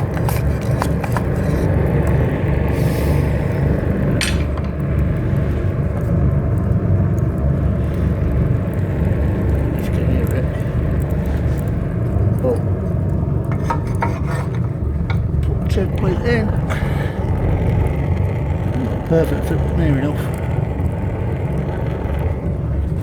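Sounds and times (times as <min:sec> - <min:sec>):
stove burning with low rumble: 0:00.0 - 0:23.0.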